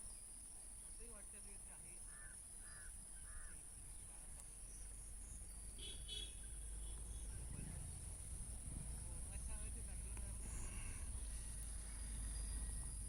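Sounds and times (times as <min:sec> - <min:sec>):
crickets chorus: 0:00.0 - 0:13.0.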